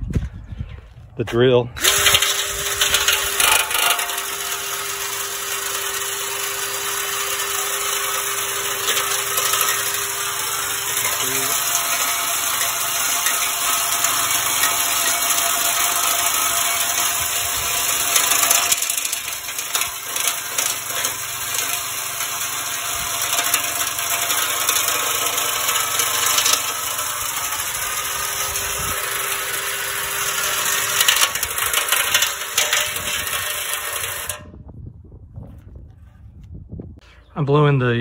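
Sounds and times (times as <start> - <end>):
drill motor whine: 1.8 - 34.4.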